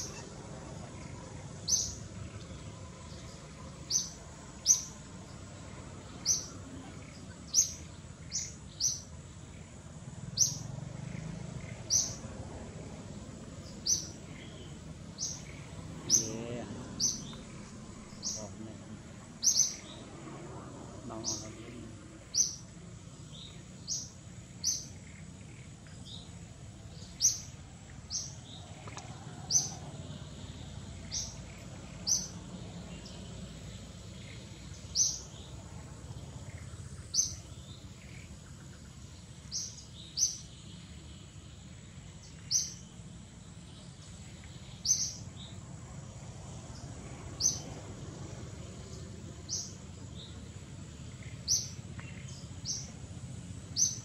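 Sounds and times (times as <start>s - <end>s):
bird chirping: 0.0s - 54.0s
low outdoor background rumble: 0.0s - 54.0s.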